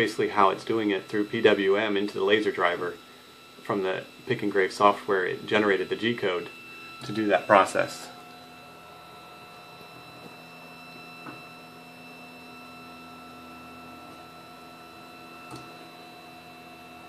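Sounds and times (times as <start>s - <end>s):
laser engraver humming with whine: 0.0s - 17.0s.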